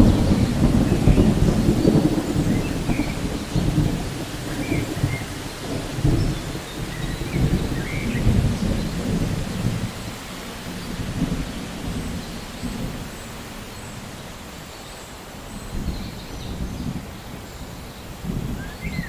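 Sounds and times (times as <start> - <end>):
low rumble of thunder: 0.0 - 14.6, 15.4 - 19.0
rain falling: 0.0 - 19.0.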